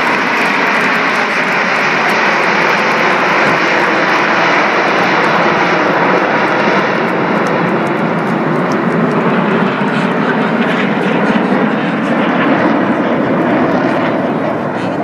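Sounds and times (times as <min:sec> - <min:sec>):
jet engines flying overhead: 0:00.0 - 0:15.0.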